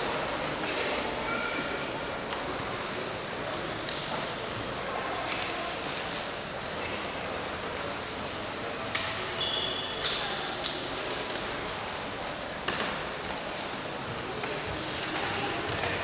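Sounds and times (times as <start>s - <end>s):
crowd murmuring in a hall: 0.0s - 16.0s.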